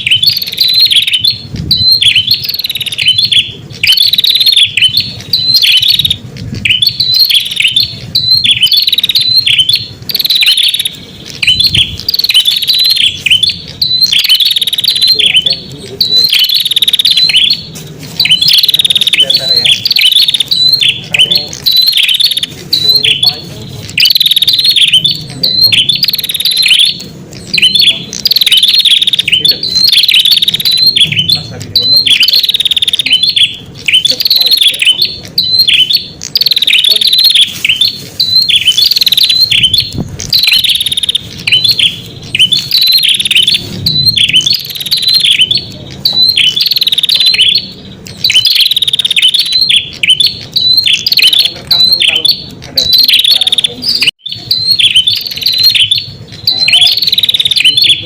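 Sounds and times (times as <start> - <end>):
songbird chirping call: 0.0 - 58.0.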